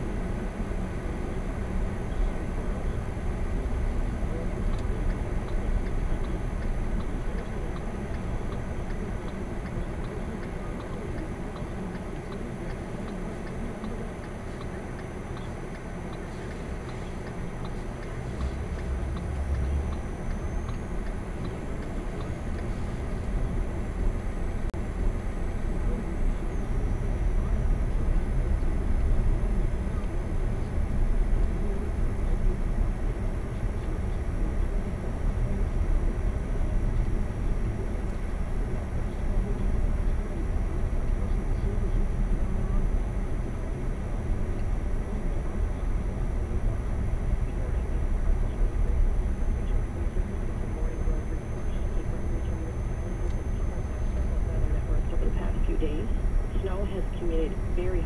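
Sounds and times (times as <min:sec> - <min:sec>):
car engine and tyre rumble: 0:00.0 - 0:54.8.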